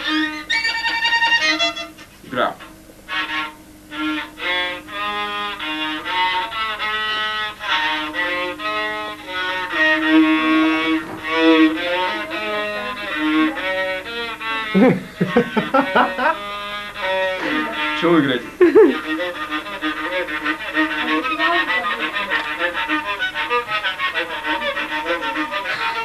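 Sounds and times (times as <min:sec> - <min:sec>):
violin melody: 0:00.0 - 0:26.0.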